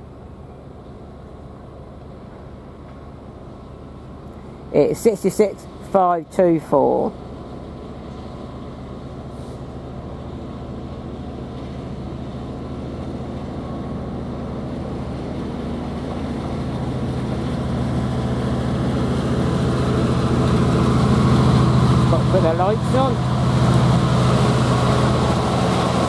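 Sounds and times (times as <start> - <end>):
diesel locomotive engine hum: 0.0 - 26.0.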